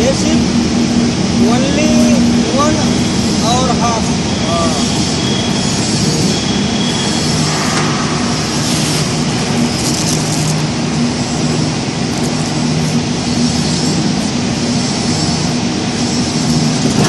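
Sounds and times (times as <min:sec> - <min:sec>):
low hum: 0:00.0 - 0:14.8
loud machinery noise: 0:00.0 - 0:17.0.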